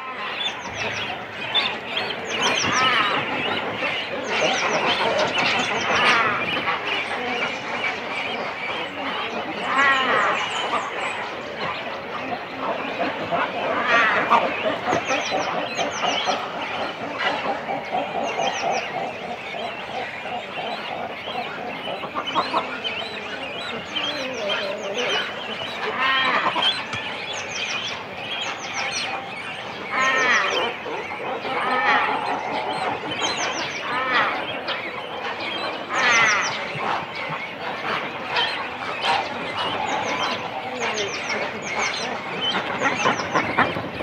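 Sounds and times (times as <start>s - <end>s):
cormorant colony calling: 0.0s - 44.0s
other birds calling: 0.0s - 44.0s.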